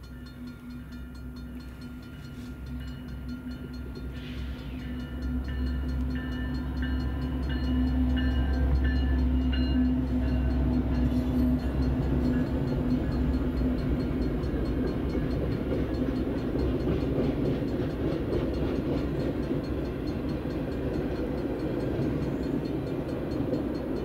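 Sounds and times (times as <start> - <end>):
freight train rumbling on rails: 0.0 - 24.0.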